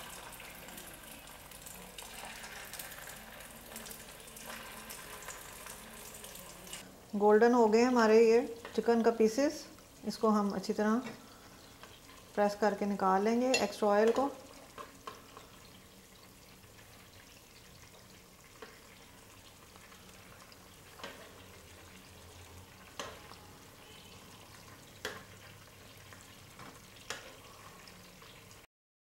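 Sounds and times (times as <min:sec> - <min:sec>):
oil sizzling: 0:00.0 - 0:28.7.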